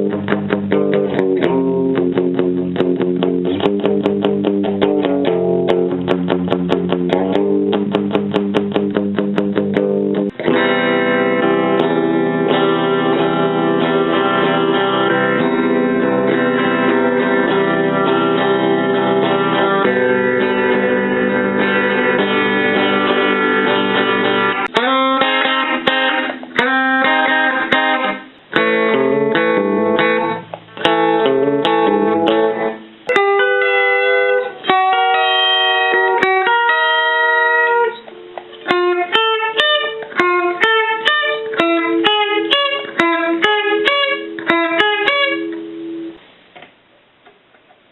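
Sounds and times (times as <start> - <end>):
electric guitar: 0.0 - 47.8.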